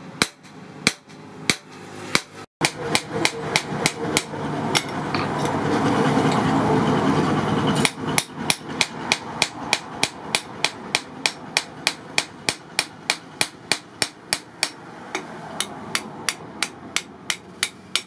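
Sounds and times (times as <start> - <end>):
hammer striking metal on anvil: 0.0 - 5.6, 7.8 - 18.0.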